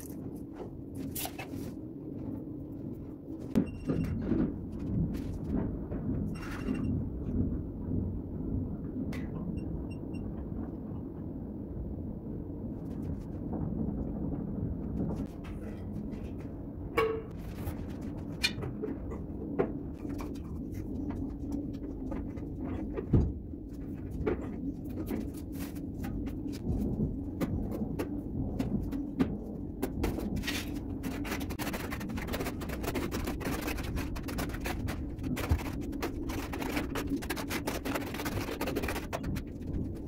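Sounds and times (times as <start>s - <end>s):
steady low rumble: 0.0s - 40.0s.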